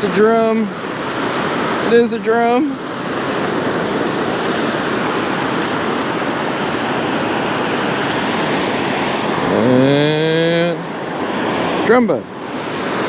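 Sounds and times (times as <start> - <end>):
water roaring through spillway: 0.0 - 13.0.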